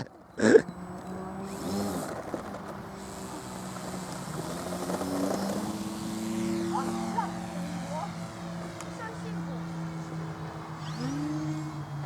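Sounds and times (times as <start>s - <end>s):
model plane motor humming: 0.0s - 12.0s
motor speeding up: 0.0s - 12.0s.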